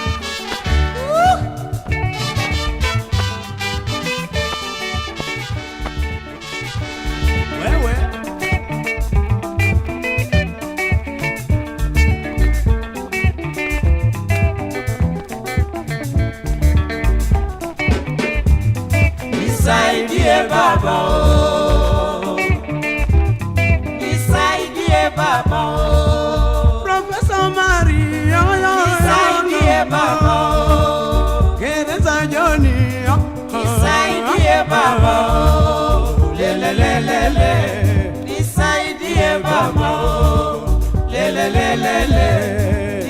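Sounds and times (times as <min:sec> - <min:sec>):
dance band instrumental music: 0:00.0 - 0:43.0
prominent bass: 0:00.0 - 0:43.0.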